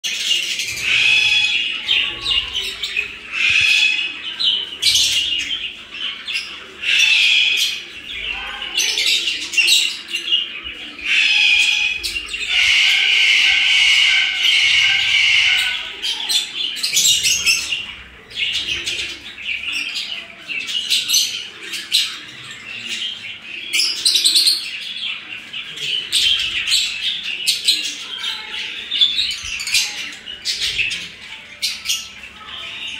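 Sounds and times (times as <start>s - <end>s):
lovebirds chirping and squawking: 0.0s - 32.9s.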